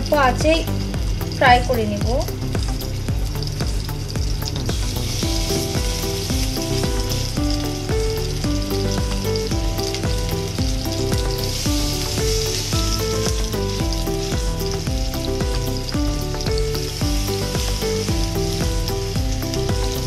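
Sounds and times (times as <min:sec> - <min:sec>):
background music with low beat: 0:00.0 - 0:20.0
chicken frying in oil: 0:00.0 - 0:20.0.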